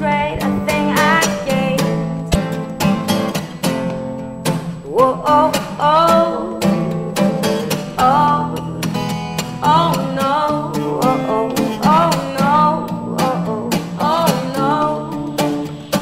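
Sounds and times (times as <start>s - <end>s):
pop song with acoustic guitar: 0.0s - 16.0s.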